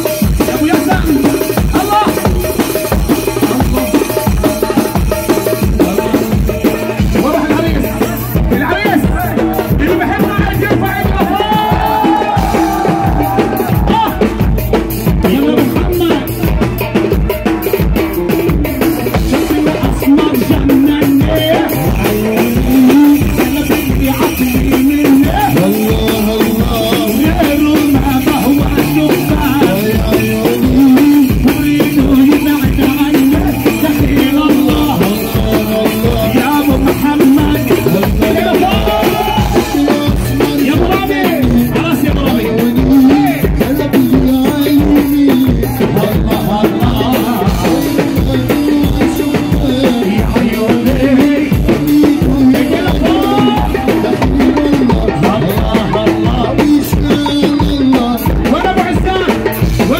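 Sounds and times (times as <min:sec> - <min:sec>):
man singing into microphone: 0:00.0 - 0:59.9
steady drum beat: 0:00.0 - 0:59.9.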